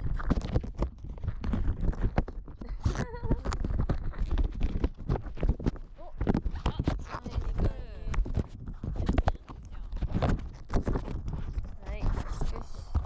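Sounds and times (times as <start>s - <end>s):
rubber balloon rubbing and knocks: 0.0s - 13.0s.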